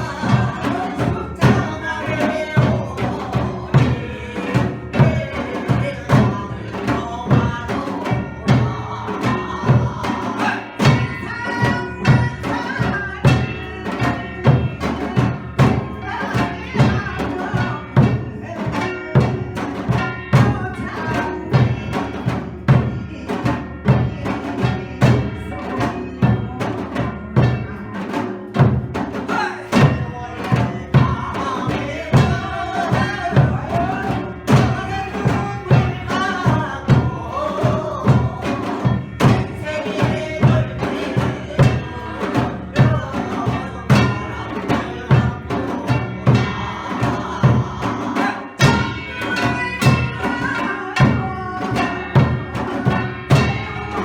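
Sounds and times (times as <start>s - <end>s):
drums beating: 0.0s - 54.0s
gongs: 0.0s - 54.0s.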